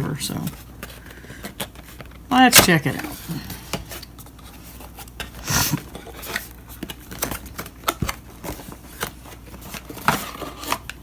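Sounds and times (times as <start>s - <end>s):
packaging rustling: 0.4s - 11.0s.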